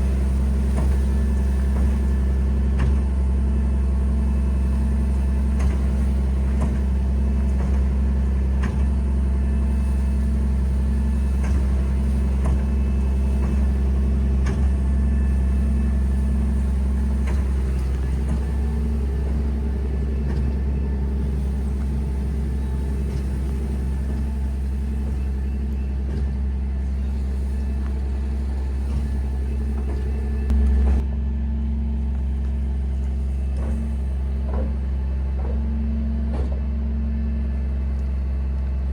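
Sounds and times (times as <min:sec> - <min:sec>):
diesel truck engine humming: 0:00.0 - 0:38.9.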